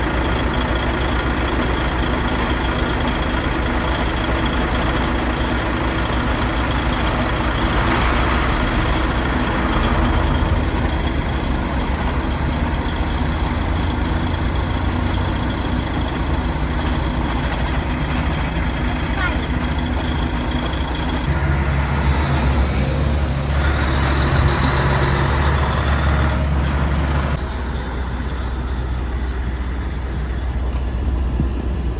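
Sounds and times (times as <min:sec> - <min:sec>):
diesel truck engine rumbling: 0:00.0 - 0:31.9.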